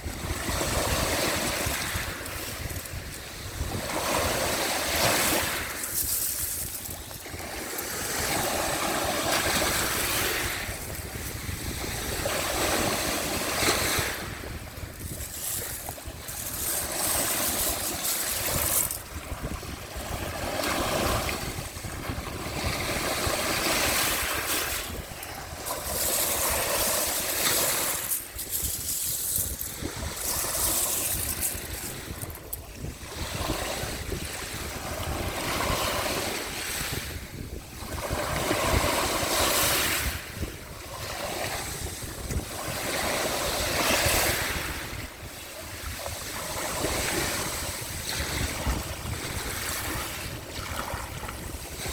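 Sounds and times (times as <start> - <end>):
waves washing on shore: 0.0 - 51.9
wind on microphone: 0.0 - 51.9.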